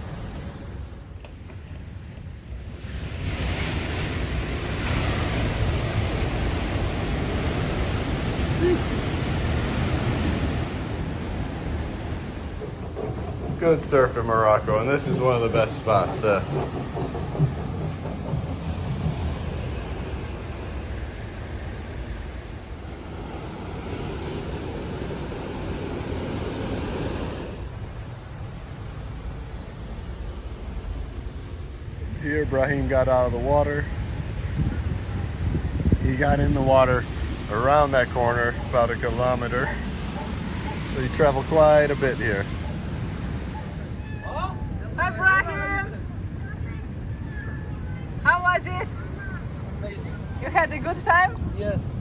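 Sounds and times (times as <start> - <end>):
ocean waves breaking: 0.0 - 52.0
wind rumbling on microphone: 0.0 - 52.0.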